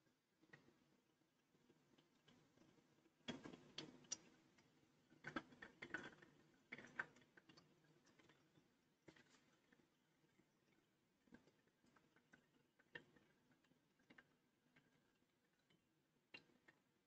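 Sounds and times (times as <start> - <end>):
faint clicks and ticks: 0.4 - 17.0.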